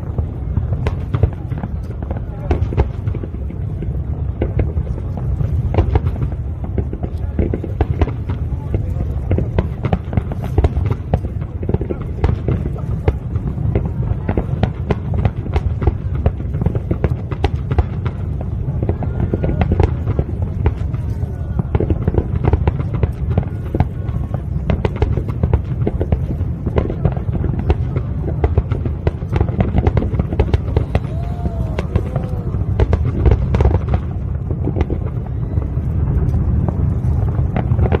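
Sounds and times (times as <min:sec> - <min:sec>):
continuous low rumble: 0:00.0 - 0:38.0
fireworks popping and banging: 0:00.0 - 0:38.0.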